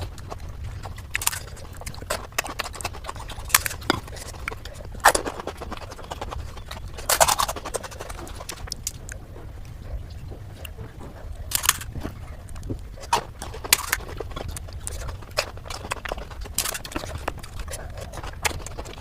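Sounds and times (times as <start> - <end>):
crisp crunching of food: 0.0 - 19.0.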